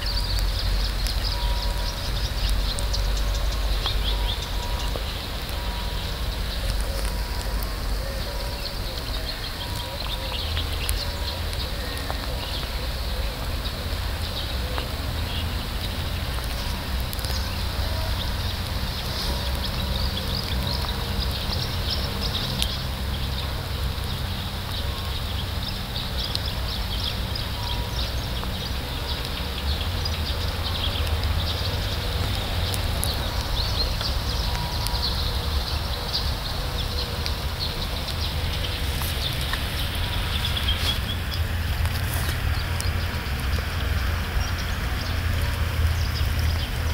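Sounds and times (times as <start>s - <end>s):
distant birds chirping: 0.0s - 46.8s
steady low rumble: 0.0s - 46.9s.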